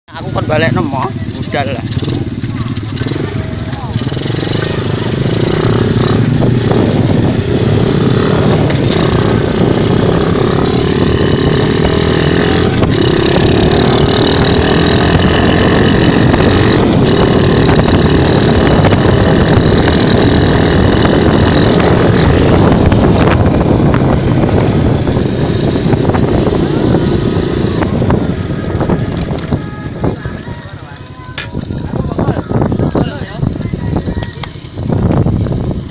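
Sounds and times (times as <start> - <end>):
motocross bike engine running: 0.1 - 35.9.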